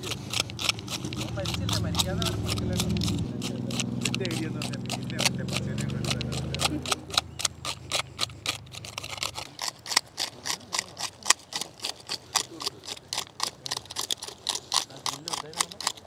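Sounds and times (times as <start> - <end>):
knife scraping fish scales: 0.0 - 16.0.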